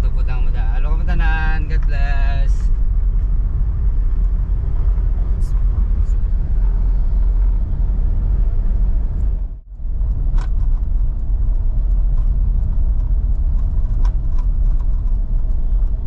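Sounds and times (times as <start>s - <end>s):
car rumbling on road: 0.0s - 16.0s.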